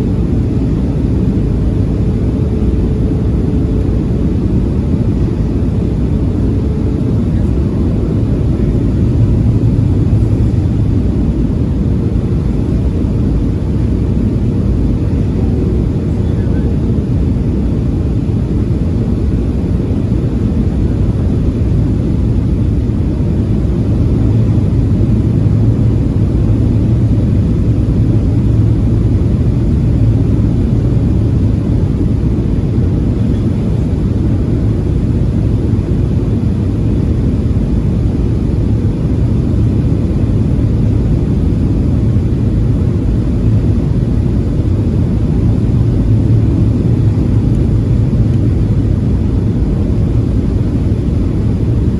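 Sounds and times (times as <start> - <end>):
faint steady hum: 0.0 - 51.9
jet engine cabin roar: 0.0 - 51.9.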